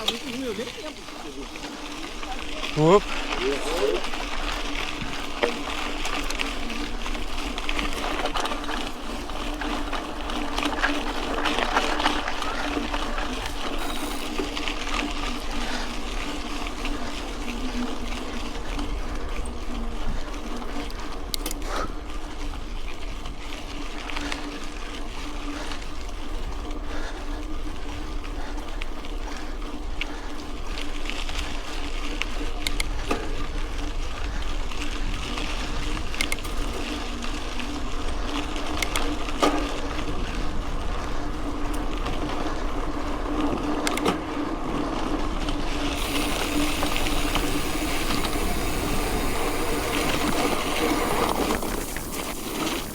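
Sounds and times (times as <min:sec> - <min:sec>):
bike clicks and rattles: 0:00.0 - 0:52.9
bike tyres on dirt road: 0:00.0 - 0:52.9.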